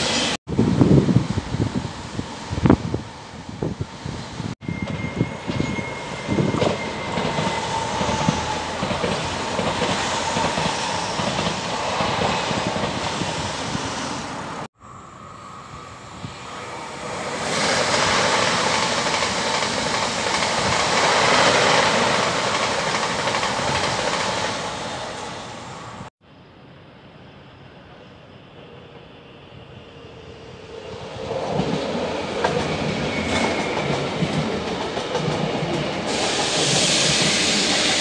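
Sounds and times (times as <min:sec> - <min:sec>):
train wheels rumbling on rails: 0:00.0 - 0:26.1, 0:27.8 - 0:38.0.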